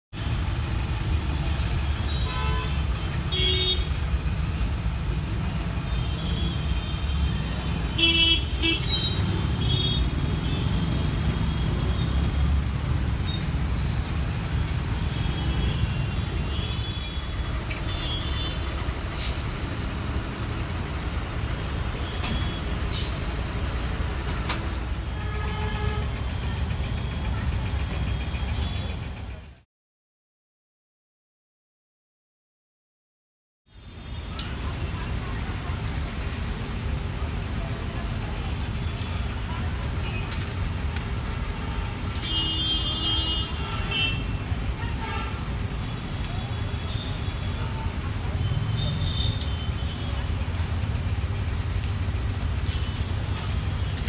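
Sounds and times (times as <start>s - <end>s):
road traffic rumble: 0.1s - 29.6s, 33.7s - 54.0s.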